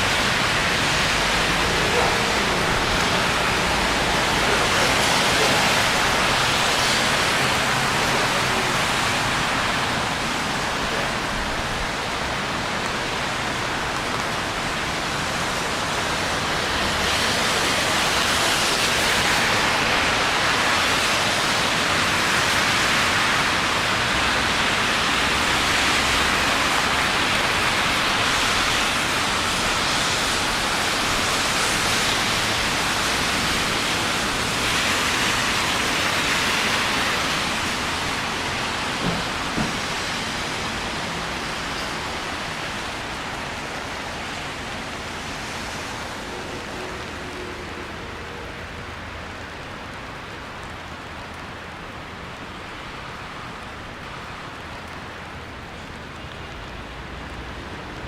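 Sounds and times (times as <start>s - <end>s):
rain falling on a street: 0.0s - 58.0s.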